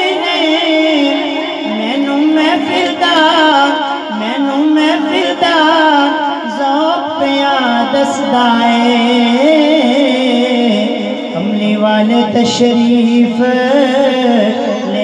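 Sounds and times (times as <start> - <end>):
man singing through loudspeakers: 0.0 - 15.0.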